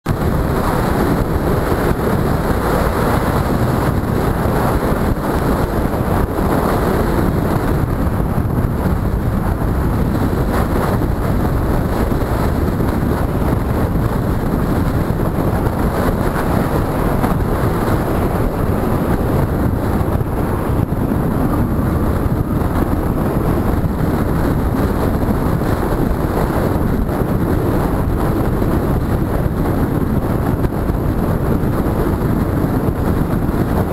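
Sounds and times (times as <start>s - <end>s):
wind rush on microphone: 0.0s - 33.9s
motorcycle engine: 0.1s - 33.9s.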